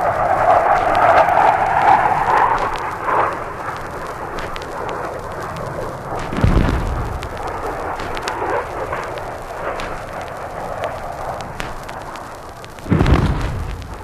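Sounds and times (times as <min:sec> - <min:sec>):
bomb boom rumbling: 0:00.0 - 0:14.0
jet noise: 0:00.0 - 0:14.0
vinyl record scratches and pops: 0:00.0 - 0:14.0.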